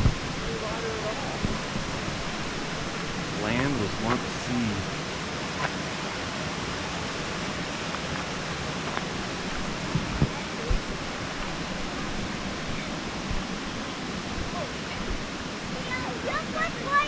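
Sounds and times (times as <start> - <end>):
creek flowing over rocks: 0.0 - 17.0.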